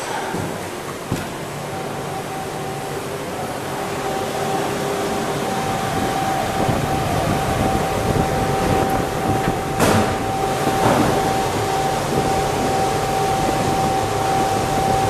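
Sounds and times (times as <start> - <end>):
fan and air-handling noise: 0.0 - 15.0
high steady whine: 0.7 - 15.0.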